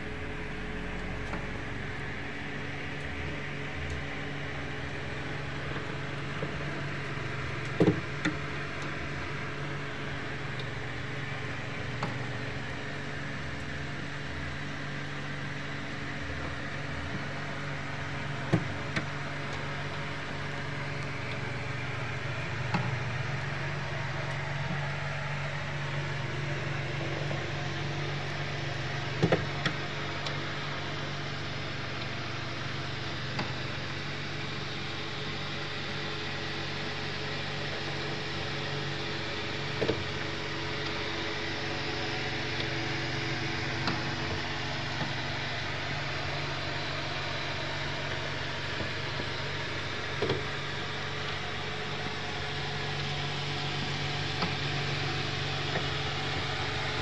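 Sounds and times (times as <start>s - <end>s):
incubator humming and hissing: 0.0s - 57.0s.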